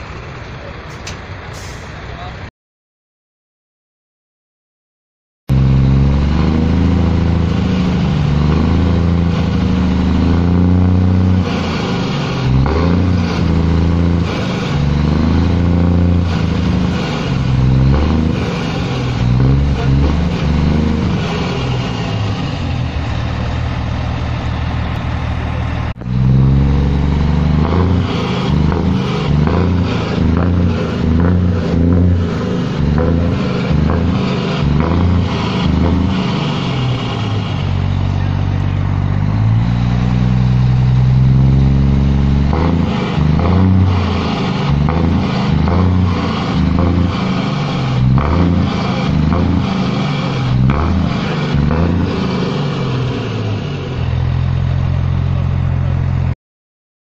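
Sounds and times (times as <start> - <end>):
diesel truck engine revving: 0.0 - 2.5, 5.5 - 56.4.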